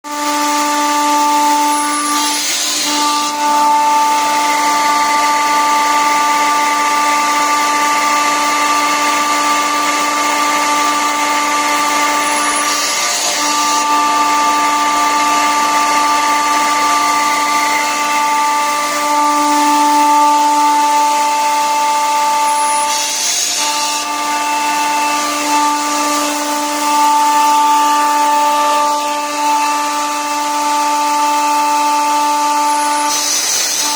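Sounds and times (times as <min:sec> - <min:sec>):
air compressor whine: 0:00.1 - 0:33.9.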